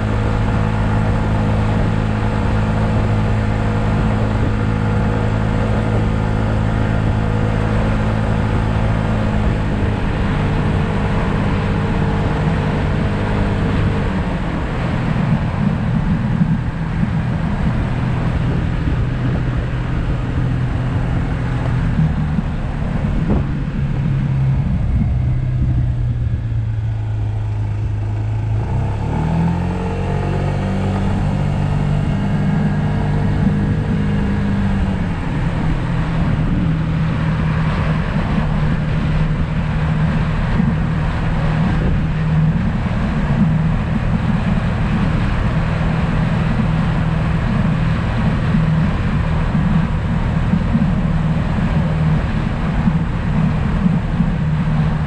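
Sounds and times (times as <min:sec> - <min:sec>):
road noise rushing: 0:00.0 - 0:55.0
scooter engine accelerating: 0:00.0 - 0:55.0.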